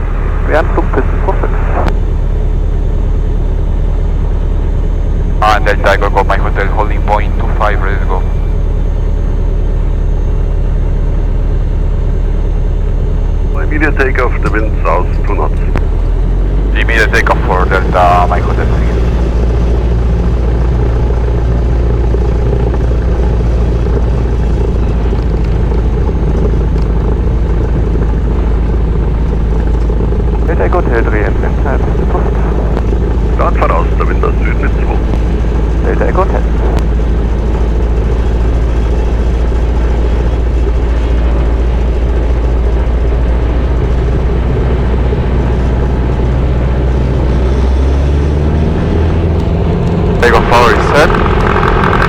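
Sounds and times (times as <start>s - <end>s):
airplane engine and propeller: 0.0s - 52.0s.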